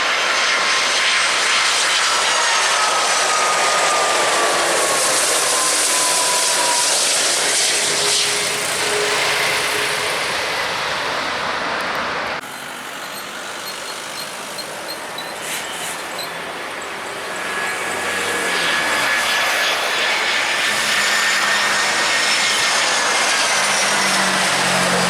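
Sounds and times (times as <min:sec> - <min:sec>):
distant jet rumble: 0:00.0 - 0:25.0
jet airliner roaring past: 0:00.0 - 0:25.0.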